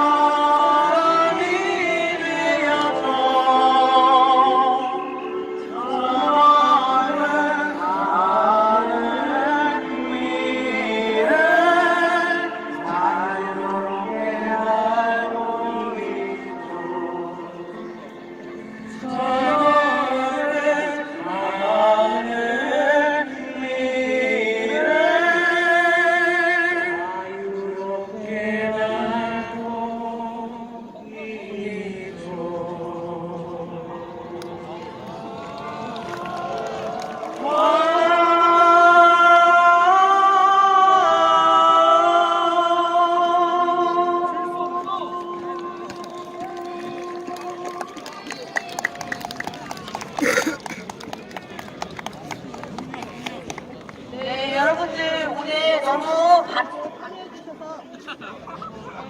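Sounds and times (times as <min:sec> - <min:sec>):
choir singing slow song: 0:00.0 - 0:48.0.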